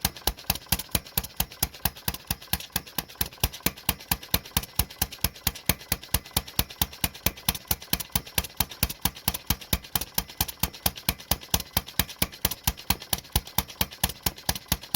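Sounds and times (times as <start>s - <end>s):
model engine beating steadily: 0.0s - 14.9s.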